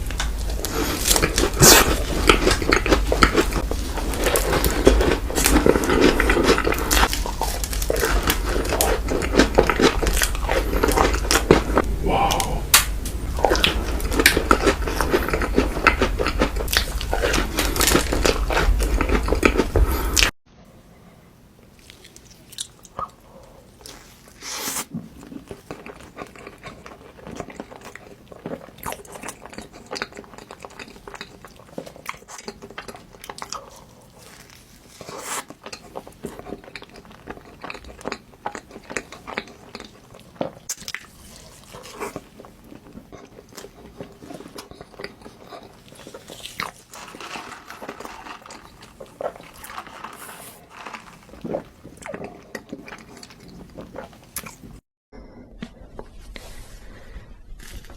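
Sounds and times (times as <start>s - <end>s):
person chewing food: 0.0s - 20.3s, 21.8s - 54.8s.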